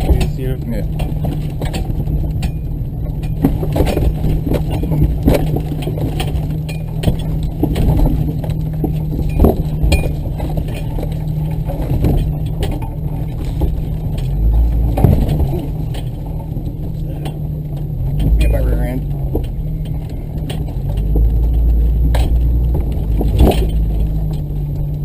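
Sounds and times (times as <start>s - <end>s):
knocks clinks and rattles: 0.0s - 25.0s
vehicle engine drone: 0.0s - 25.0s.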